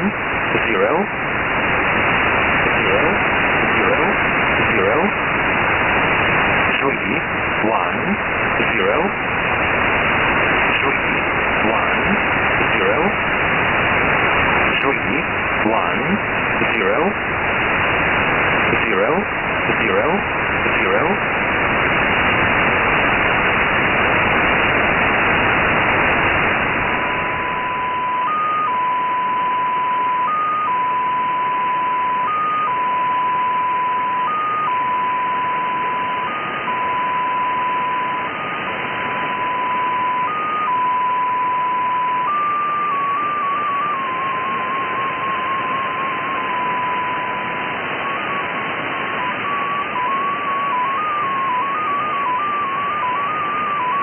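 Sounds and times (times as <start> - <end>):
data station tone: 0.0 - 54.0
shortwave radio hiss: 0.0 - 54.0.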